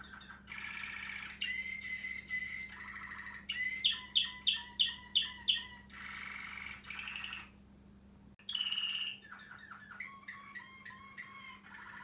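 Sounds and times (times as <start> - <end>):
canary singing: 0.0 - 7.6, 8.4 - 12.0.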